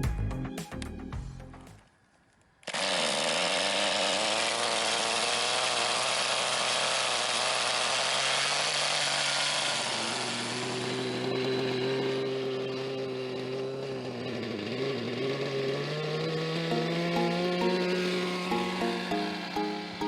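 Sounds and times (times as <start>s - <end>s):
small engine running buzzy: 2.6s - 20.0s.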